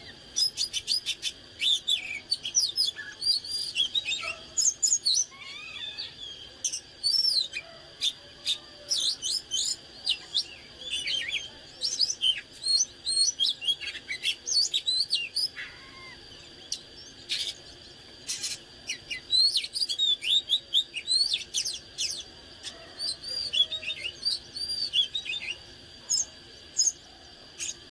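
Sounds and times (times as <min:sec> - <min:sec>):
bird singing whistled phrases: 0:00.0 - 0:07.7, 0:08.5 - 0:17.6, 0:18.3 - 0:22.3, 0:23.0 - 0:27.0.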